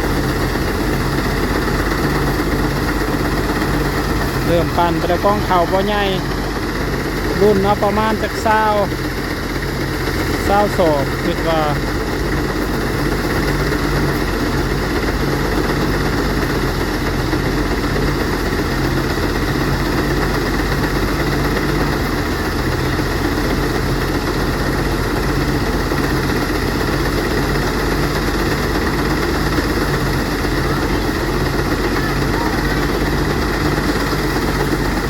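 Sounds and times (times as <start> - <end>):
threshing machine engine running: 0.0 - 35.0.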